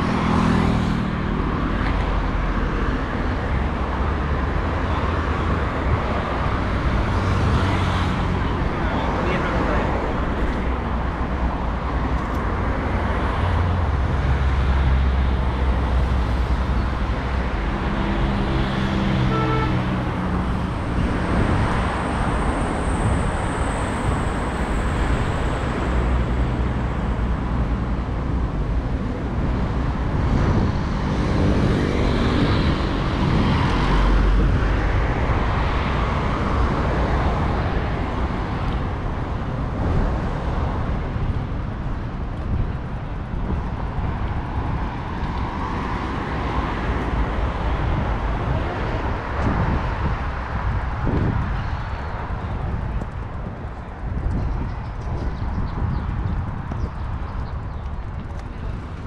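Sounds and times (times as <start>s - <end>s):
loud engines passing: 0.0s - 59.0s
road traffic rumble: 0.0s - 59.0s.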